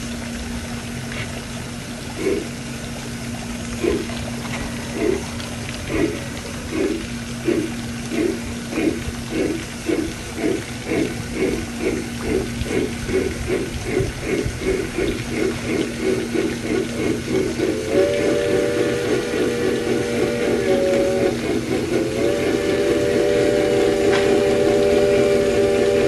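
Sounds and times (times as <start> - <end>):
steady low hum: 0.0 - 26.0
model locomotive chuffing: 2.1 - 2.6, 3.6 - 26.0.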